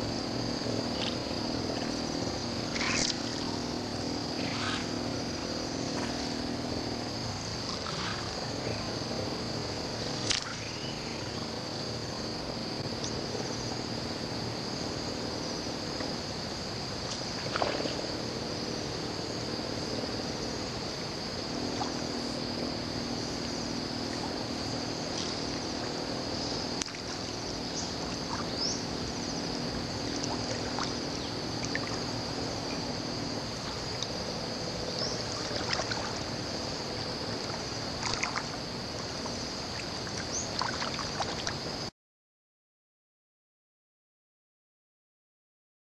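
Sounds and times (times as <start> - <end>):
high-pitched insect chorus: 0.0 - 41.9
low steady hum: 0.0 - 41.9.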